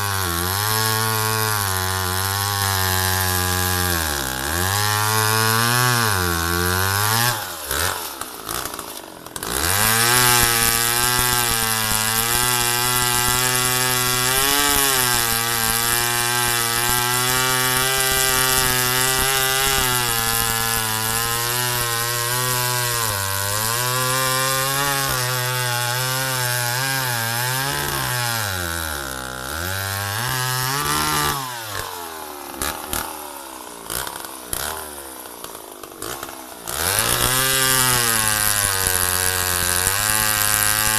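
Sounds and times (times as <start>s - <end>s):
chainsaw cutting into log: 0.0s - 40.9s.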